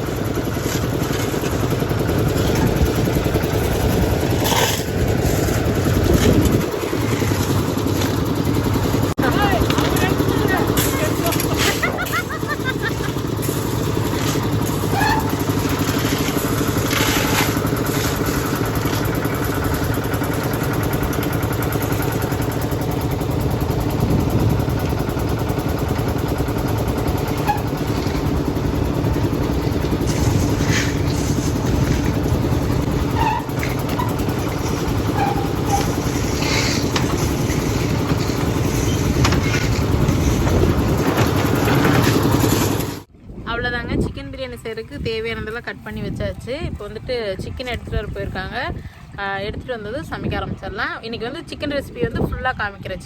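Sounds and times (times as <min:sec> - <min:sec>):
engine running: 0:00.0 - 0:43.2.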